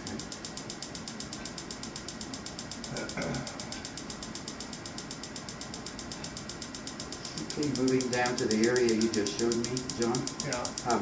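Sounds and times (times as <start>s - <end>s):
shockwave applicator rapid clicks: 0.0s - 11.0s.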